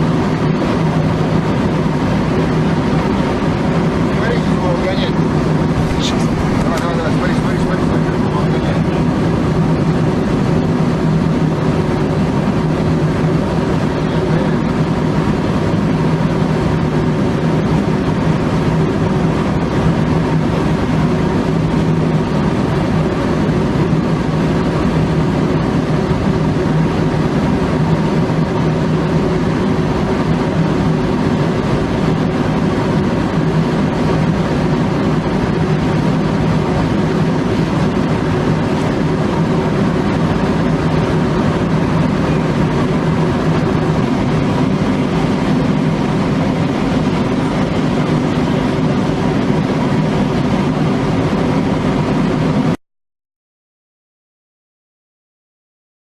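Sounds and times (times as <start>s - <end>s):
aircraft engines droning: 0.0s - 52.8s.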